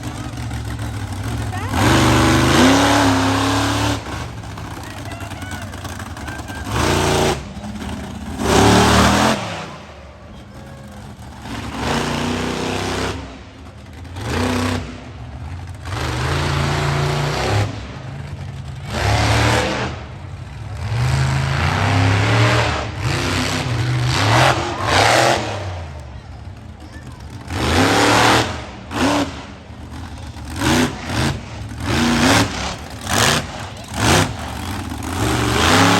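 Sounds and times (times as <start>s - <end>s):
monster truck engine revving: 0.0s - 35.9s.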